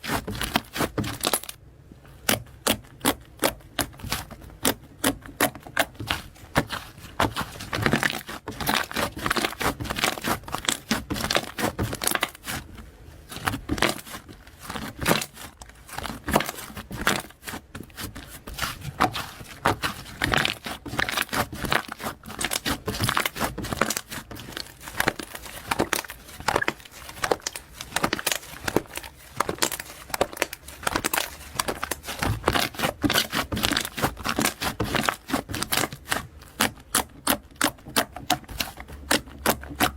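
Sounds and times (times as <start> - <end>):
slime squishing with sticky clicks: 0.0 - 39.9.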